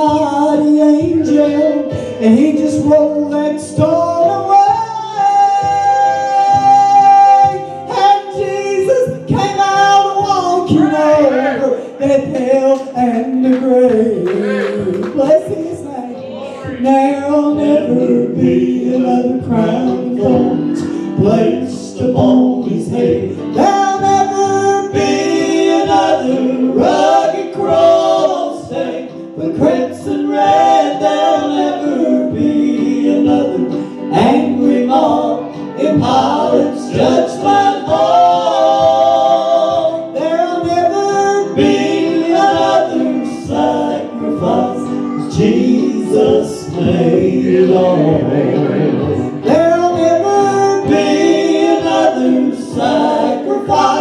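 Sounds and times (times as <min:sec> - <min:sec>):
choir singing gospel song: 0:00.0 - 0:54.0.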